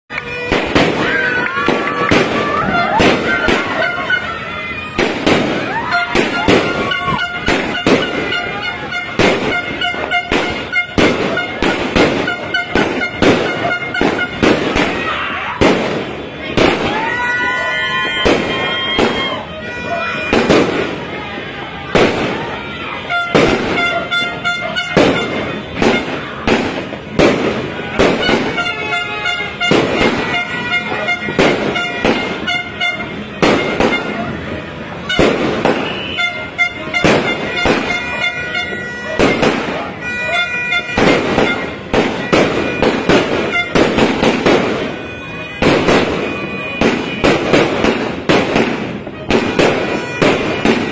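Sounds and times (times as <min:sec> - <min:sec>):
fireworks banging: 0:00.1 - 0:50.9
steady horn-like tones: 0:00.1 - 0:50.9.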